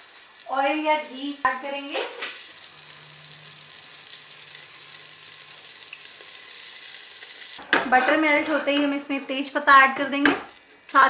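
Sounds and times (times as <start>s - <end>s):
butter sizzling: 0.0s - 7.6s, 9.4s - 11.0s.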